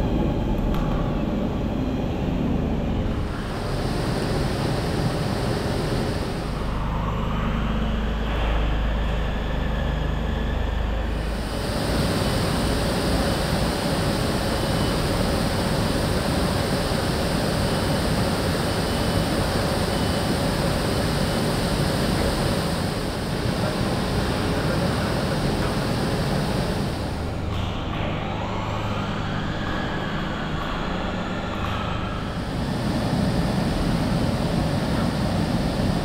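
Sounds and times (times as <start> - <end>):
faint hum: 0.0 - 36.0
faint rising whine: 0.0 - 36.0
machinery rumble and hiss: 0.0 - 36.0.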